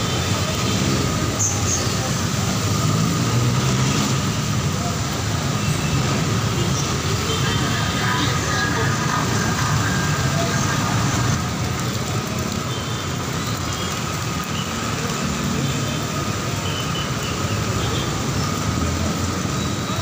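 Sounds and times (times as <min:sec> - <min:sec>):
heavy rain: 0:00.0 - 0:20.0
tyres on wet pavement: 0:00.0 - 0:20.0
vehicle engines rumbling: 0:00.0 - 0:20.0.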